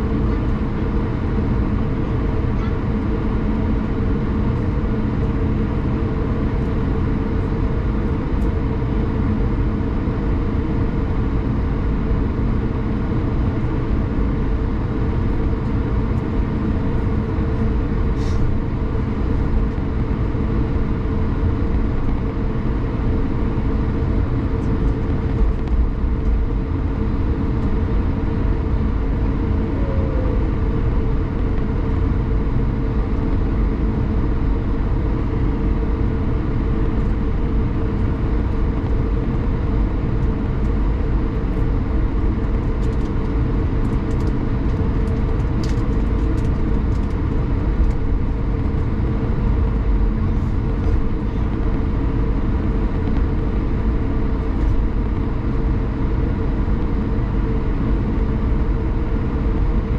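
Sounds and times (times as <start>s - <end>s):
aircraft cabin engine drone: 0.0s - 59.9s
steady hum: 0.0s - 59.9s.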